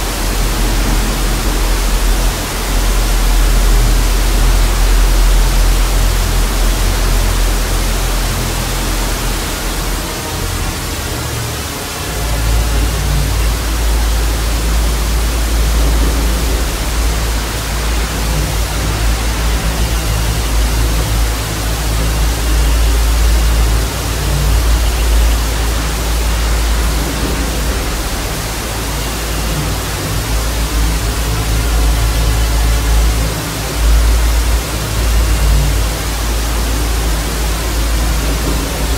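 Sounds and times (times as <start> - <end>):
deep low drone: 0.0 - 38.9.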